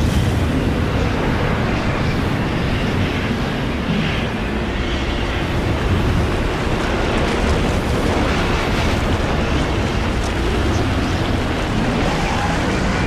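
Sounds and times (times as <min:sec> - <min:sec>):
roaring tornado wind: 0:00.0 - 0:13.0.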